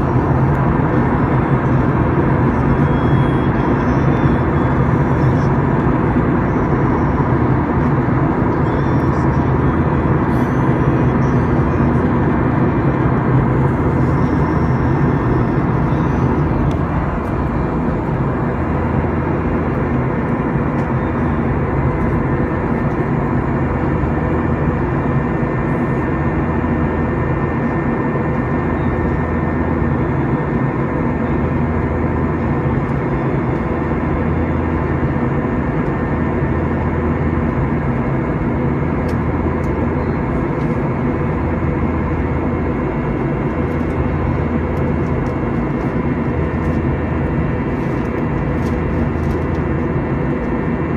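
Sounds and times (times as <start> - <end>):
engine drone: 0.0 - 50.9.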